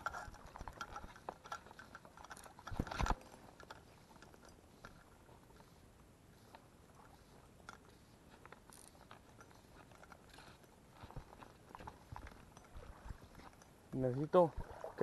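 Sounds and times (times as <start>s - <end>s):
fly line clicks and rustles: 0.0s - 15.0s.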